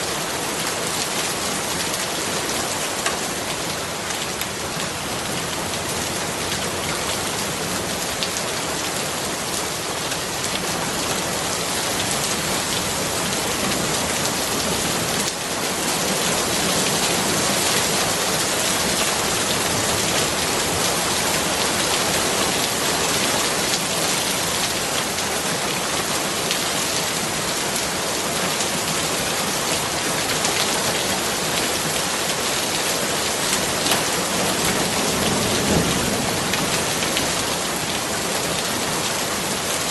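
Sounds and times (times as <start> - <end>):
rain pattering on surfaces: 0.1 - 39.9.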